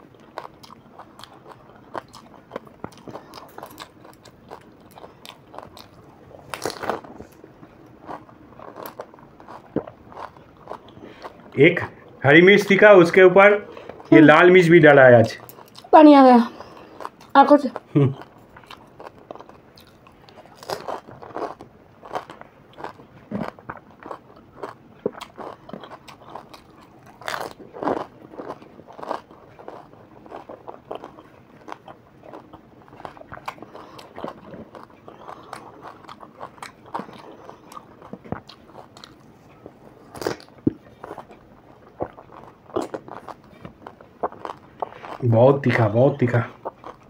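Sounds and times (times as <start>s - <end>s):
crunching and chewing crisp food: 0.0s - 47.0s.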